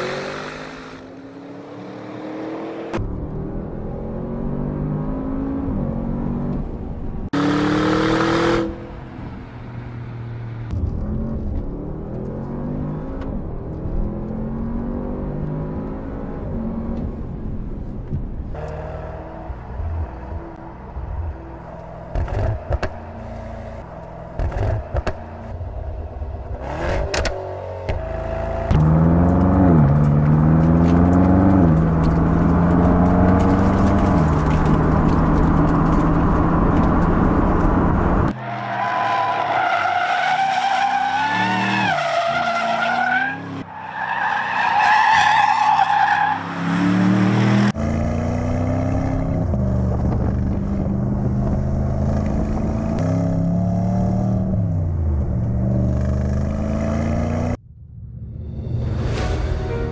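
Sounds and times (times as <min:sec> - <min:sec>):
car engines revving: 0:00.0 - 0:58.4.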